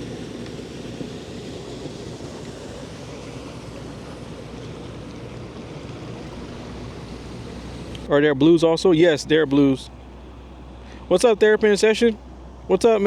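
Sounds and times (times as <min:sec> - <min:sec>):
water washing: 0:00.0 - 0:13.0.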